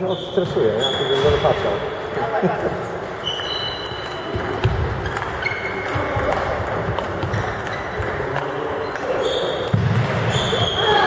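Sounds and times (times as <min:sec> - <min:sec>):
chatter in a hall: 0:00.0 - 0:11.0.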